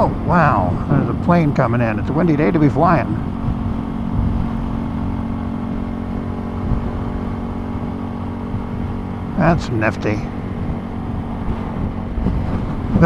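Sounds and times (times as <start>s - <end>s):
motorcycle engine humming: 0.0s - 13.0s
wind buffeting microphone: 0.0s - 13.0s.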